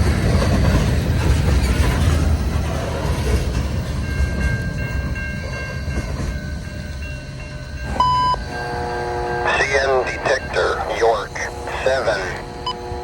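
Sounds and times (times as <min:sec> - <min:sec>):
freight train cars rumbling: 0:00.0 - 0:13.0.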